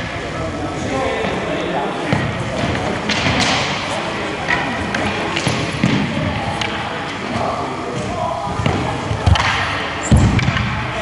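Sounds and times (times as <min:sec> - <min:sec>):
voices echoing in hall: 0:00.0 - 0:11.0.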